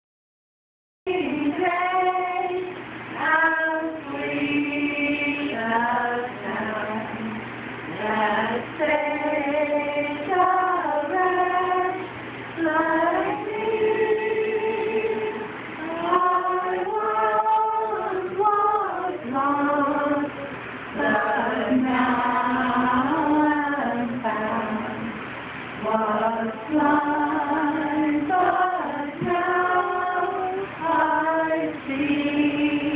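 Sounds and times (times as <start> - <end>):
women and children singing: 1.1 - 32.9.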